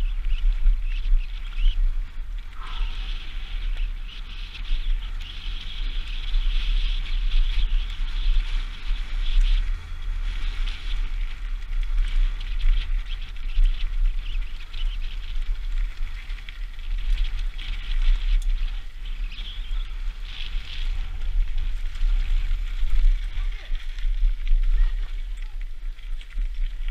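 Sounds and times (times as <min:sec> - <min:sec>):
wind rushing over helmet camera: 0:00.0 - 0:26.9.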